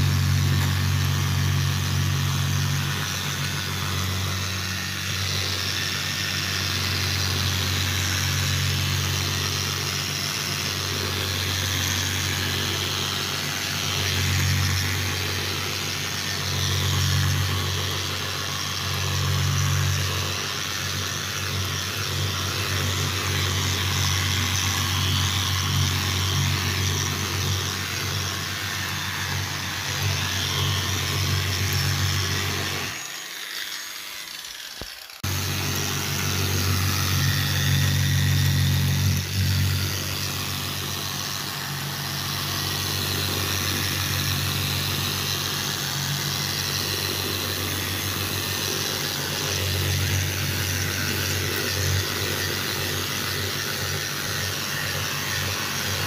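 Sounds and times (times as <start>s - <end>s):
orbital sander running: 0.0s - 56.0s.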